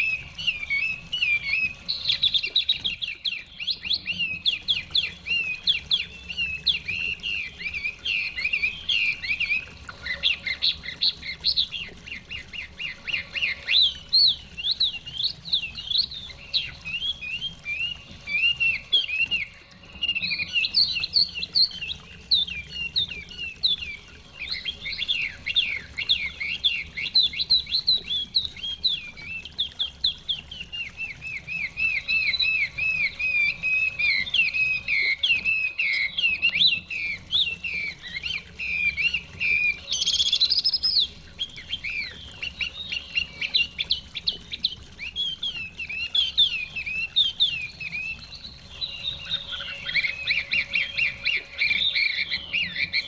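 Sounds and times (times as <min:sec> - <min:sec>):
bird singing whistled phrases: 0:00.0 - 0:53.0.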